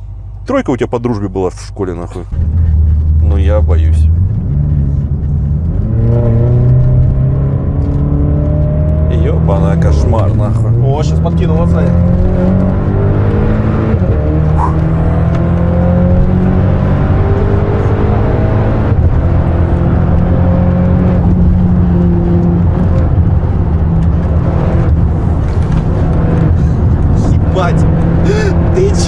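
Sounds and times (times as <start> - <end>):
car engine accelerating hard: 1.8 - 29.0.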